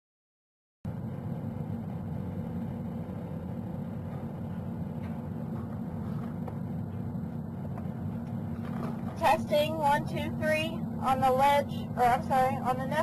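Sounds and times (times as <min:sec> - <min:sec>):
city background rumble: 0:00.9 - 0:13.0.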